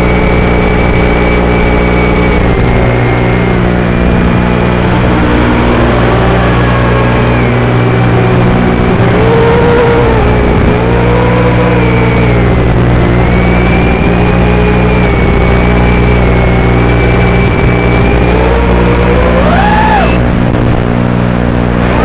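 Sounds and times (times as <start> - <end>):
quadcopter motors whining: 0.0 - 20.6, 21.7 - 22.0
loud steady low buzz: 0.0 - 22.0.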